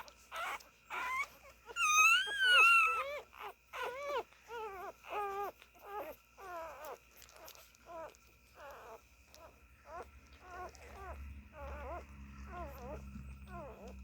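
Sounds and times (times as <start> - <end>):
puppies whining and squeaking: 0.0 - 14.0.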